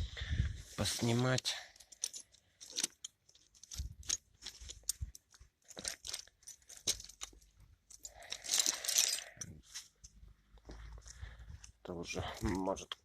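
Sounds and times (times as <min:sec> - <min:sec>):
handling clicks and crunching: 0:00.9 - 0:13.0.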